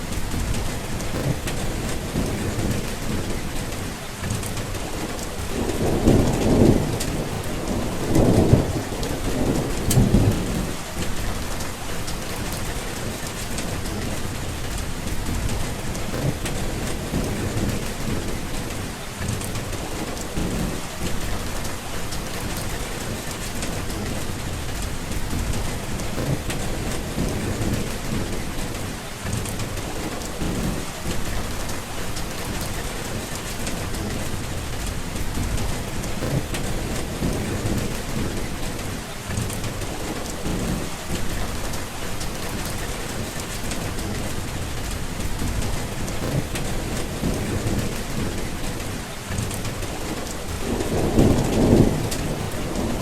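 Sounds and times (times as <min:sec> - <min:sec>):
heavy rain falling: 0:00.0 - 0:53.0
low rolling thunder: 0:00.0 - 0:53.0.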